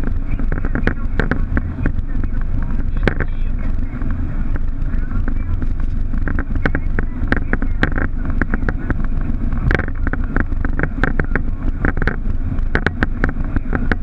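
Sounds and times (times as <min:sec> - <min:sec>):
aircraft engine and airframe rumble: 0:00.0 - 0:14.0
cockpit clicks and rattles: 0:00.0 - 0:14.0.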